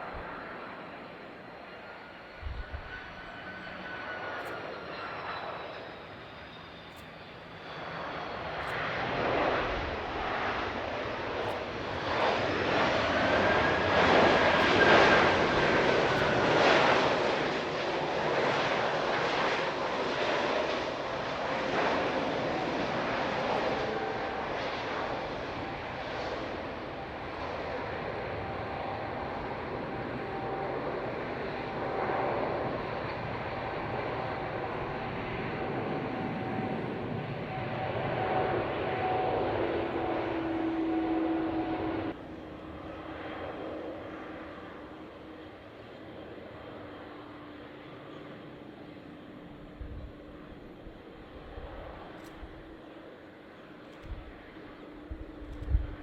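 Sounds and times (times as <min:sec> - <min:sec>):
faint engine whine: 0:00.0 - 0:56.0
jet airliner passing: 0:00.0 - 0:56.0.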